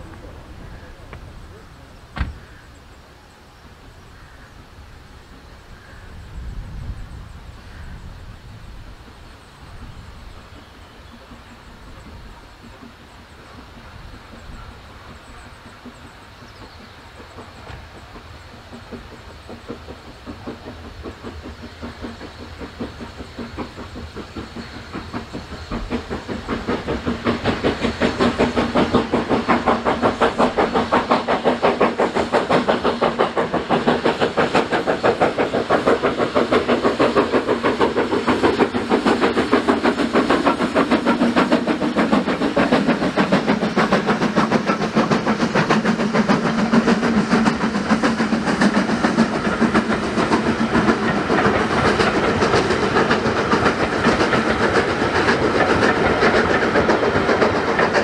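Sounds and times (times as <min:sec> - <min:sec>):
steam locomotive exhaust beating: 0:00.0 - 0:58.0
train coaches rolling by: 0:00.0 - 0:58.0.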